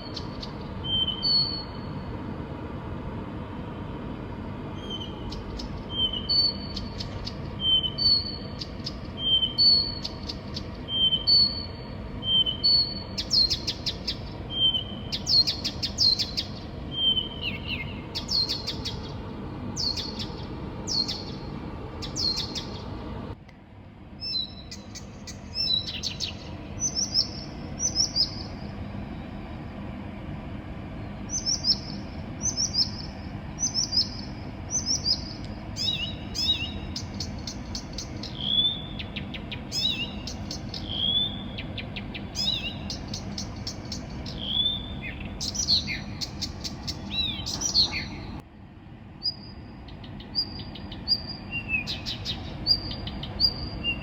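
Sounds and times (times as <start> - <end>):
songbird singing: 0.0 - 2.5, 3.4 - 23.4, 24.1 - 48.4, 49.2 - 54.0
steady low hum: 0.0 - 54.0.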